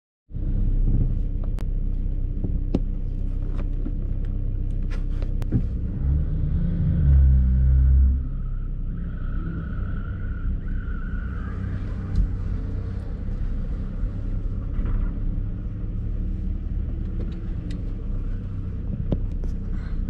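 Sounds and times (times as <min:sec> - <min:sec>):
car engine running: 0:00.3 - 0:20.0.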